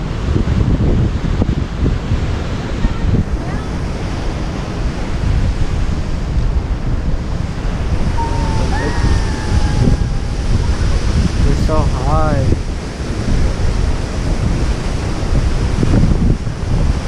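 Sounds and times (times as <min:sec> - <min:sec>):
wind buffeting microphone: 0:00.0 - 0:17.0
waterfall rushing: 0:02.6 - 0:16.6.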